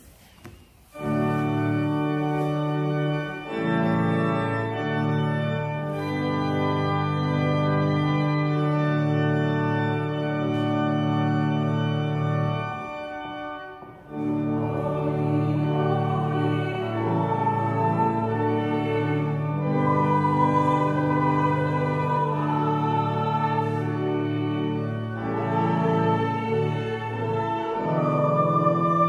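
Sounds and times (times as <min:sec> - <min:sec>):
pipe organ playing a hymn: 0:00.9 - 0:29.0.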